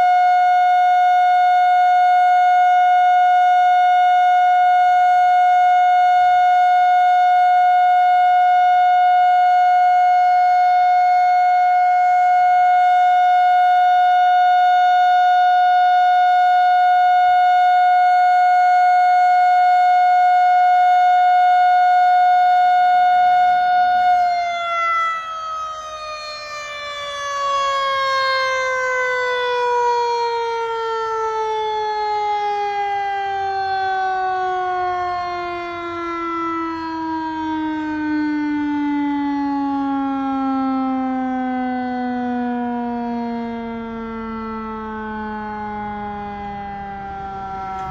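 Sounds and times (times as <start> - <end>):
siren winding down: 0.0 - 47.9.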